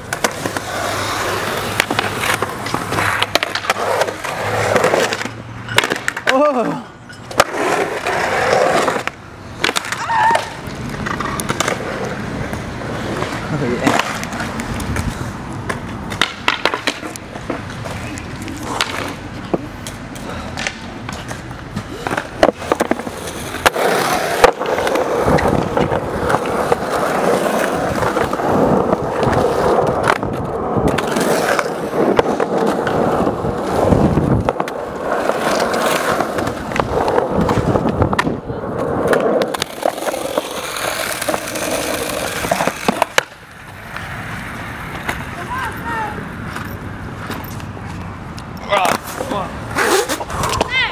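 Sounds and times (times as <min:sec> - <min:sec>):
skateboard clacks and knocks: 0:00.0 - 0:44.2
skateboard wheels rolling on concrete: 0:00.0 - 0:50.9.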